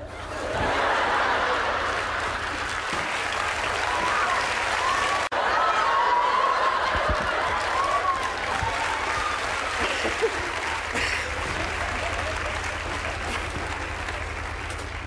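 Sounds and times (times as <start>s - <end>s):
audience applauding: 0.0s - 15.0s
people cheering: 0.0s - 15.0s.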